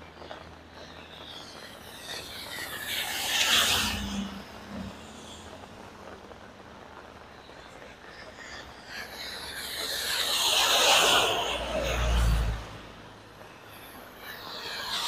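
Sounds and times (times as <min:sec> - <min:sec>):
car tyres hissing on wet road: 0:00.0 - 0:15.0
heavy rain: 0:00.0 - 0:15.0.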